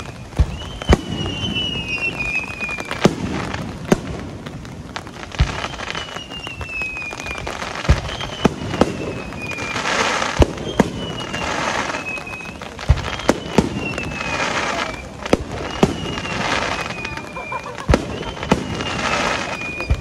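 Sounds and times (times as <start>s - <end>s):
descending firework whistles: 0.0s - 4.0s, 5.2s - 20.0s
crackling hiss: 0.0s - 20.0s
firework shells bursting: 0.0s - 20.0s.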